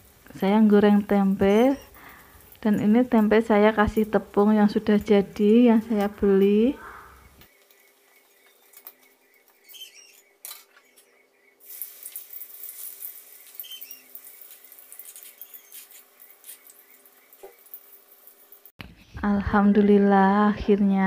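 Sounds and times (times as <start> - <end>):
frying sizzle with crackles: 0.0 - 10.2, 10.8 - 18.8.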